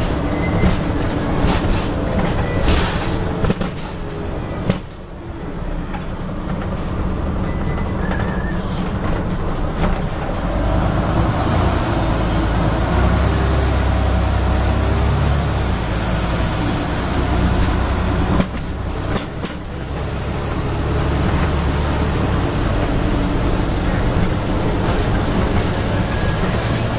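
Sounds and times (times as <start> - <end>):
bus diesel engine: 0.0 - 26.9
road noise: 0.0 - 26.9.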